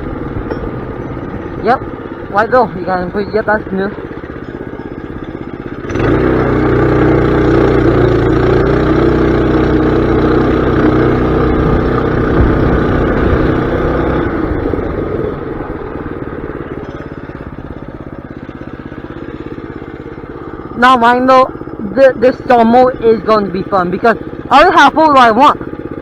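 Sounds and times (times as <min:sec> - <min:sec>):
small engine revving and idling: 0:00.0 - 0:26.0.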